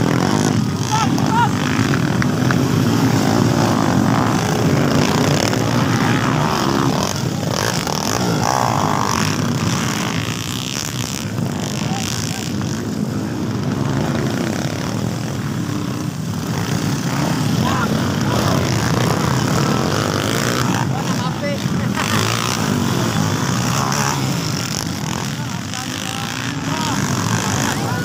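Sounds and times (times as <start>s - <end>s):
crowd voices: 0.0s - 28.0s
dirt bike engines revving: 0.0s - 28.0s.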